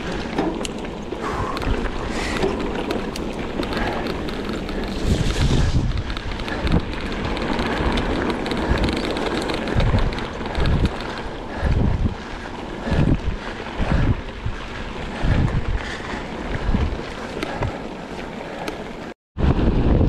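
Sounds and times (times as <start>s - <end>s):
tyre noise rushing: 0.0s - 19.0s
bicycle clicking and rattling: 0.0s - 19.2s
wind buffeting microphone: 0.0s - 20.0s.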